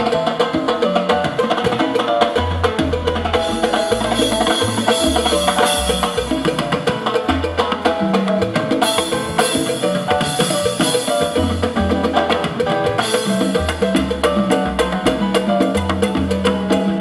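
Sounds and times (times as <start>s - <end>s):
salsa band playing: 0.0s - 17.0s.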